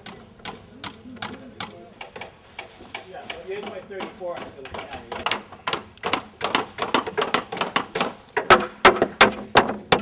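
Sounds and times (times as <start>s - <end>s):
rapid sharp knocks and clacks: 1.2s - 10.0s.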